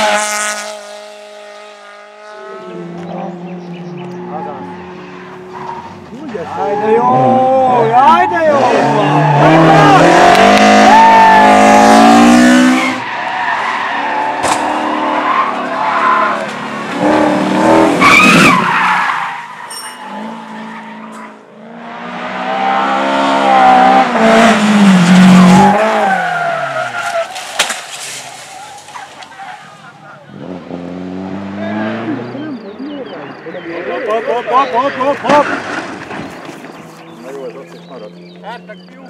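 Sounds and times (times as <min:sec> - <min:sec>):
race car engines revving: 0:00.0 - 0:39.0
tyres skidding: 0:00.0 - 0:39.0.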